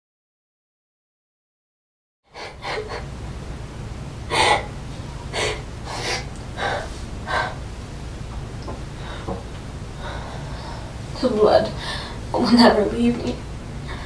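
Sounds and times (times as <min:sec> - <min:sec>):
low steady hum: 0:02.3 - 0:14.0.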